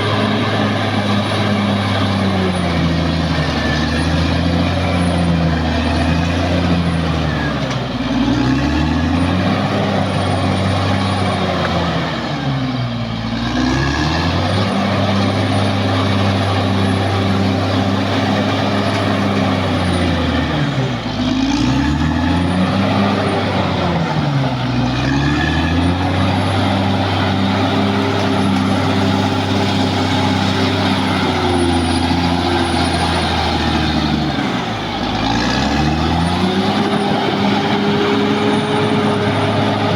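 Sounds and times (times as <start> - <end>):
bulldozer diesel engine running hard: 0.0 - 39.9.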